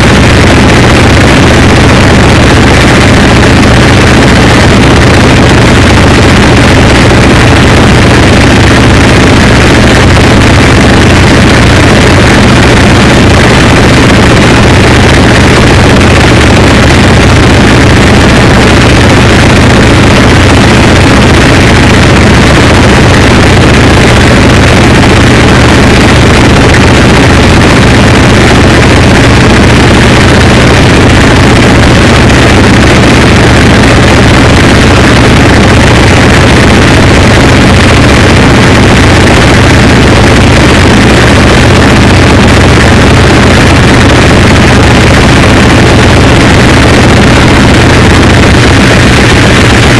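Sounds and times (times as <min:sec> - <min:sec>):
harsh distorted noise music: 0:00.0 - 0:49.9
steady low hum: 0:00.0 - 0:49.9.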